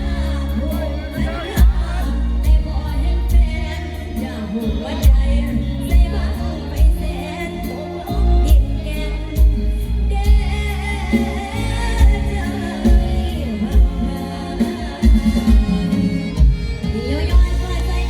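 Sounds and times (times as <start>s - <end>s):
heavy bass drum beat: 0.0s - 18.0s
live band music: 0.0s - 18.0s
person singing: 0.0s - 18.0s.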